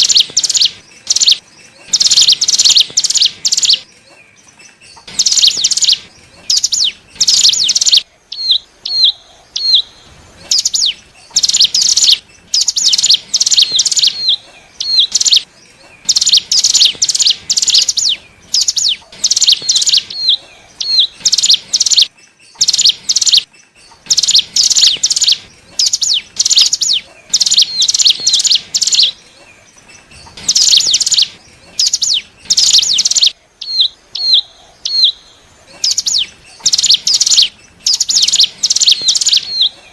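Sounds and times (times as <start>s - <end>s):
bird high chattering song: 0.0s - 39.9s.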